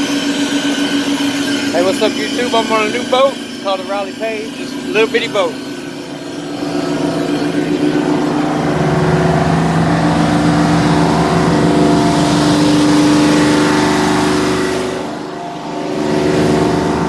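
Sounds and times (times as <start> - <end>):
boat diesel engine droning: 0.0 - 17.0.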